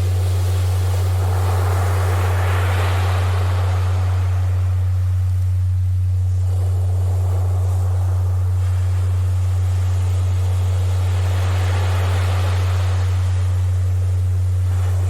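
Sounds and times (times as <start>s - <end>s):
sea surf: 0.0s - 15.0s
steady low tone: 0.0s - 15.0s.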